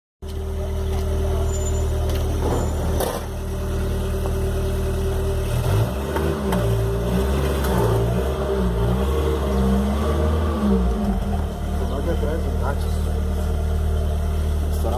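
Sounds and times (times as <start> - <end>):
car engine idling and revving: 0.2 - 14.9.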